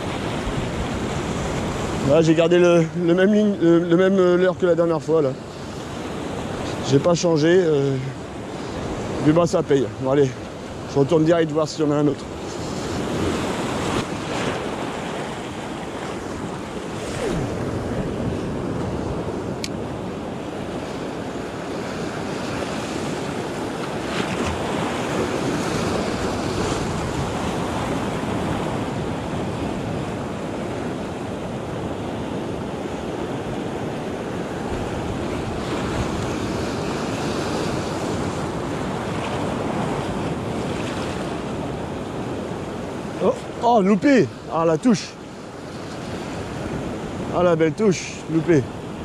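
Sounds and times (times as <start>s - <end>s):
sea surf breaking: 0.0s - 49.0s.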